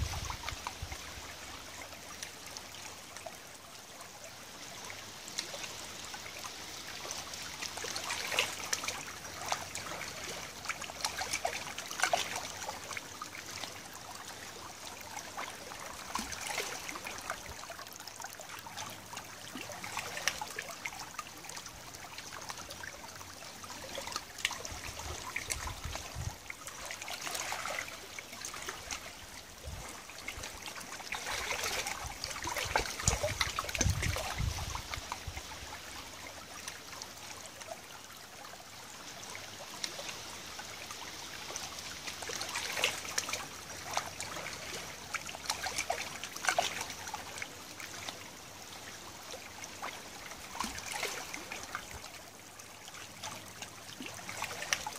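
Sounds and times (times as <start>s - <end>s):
water lapping among pebbles: 4.1s - 54.9s.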